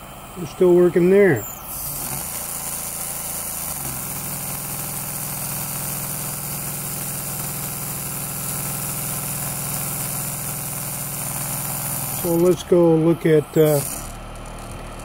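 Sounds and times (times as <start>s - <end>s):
water pump humming: 0.0s - 15.0s.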